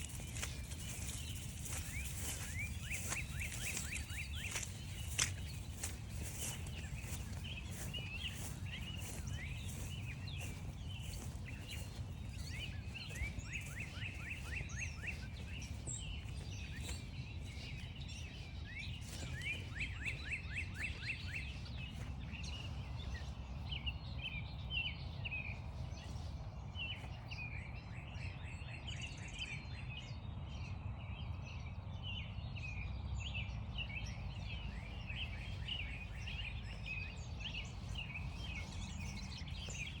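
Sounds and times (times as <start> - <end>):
footsteps crunching on frosty grass: 0.0 - 27.5, 34.3 - 40.0
songbirds singing: 0.0 - 40.0.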